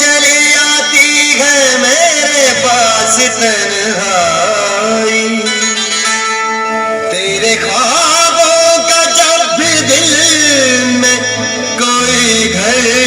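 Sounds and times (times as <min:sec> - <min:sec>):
song with plucked strings: 0:00.0 - 0:13.0.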